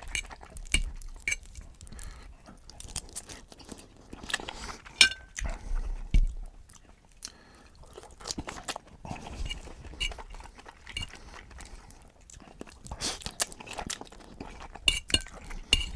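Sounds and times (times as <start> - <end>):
chewing and biting food: 0.0 - 15.9.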